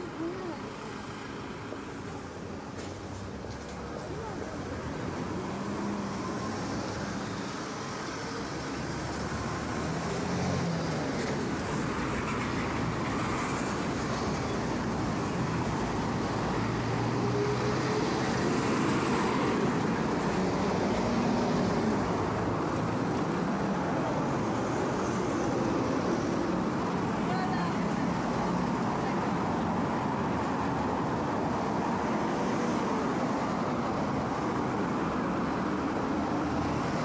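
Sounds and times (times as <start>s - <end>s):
street traffic passing: 0.0s - 37.0s.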